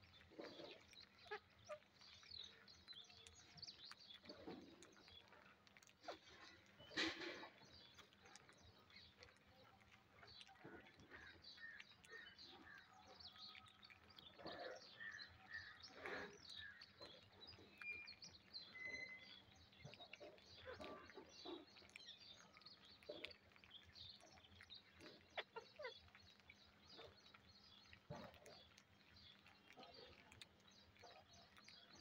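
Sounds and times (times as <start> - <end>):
beaks ticking on concrete: 0.0 - 32.0.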